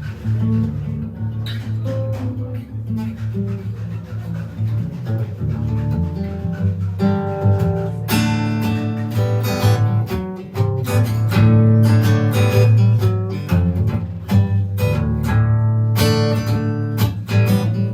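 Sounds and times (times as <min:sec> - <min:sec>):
strummed guitar chords: 0:00.0 - 0:17.9.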